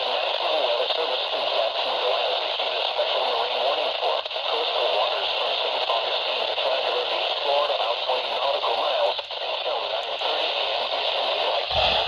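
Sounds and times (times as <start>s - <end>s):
faint voice on radio: 0.0s - 12.0s
radio static hiss: 0.0s - 12.0s.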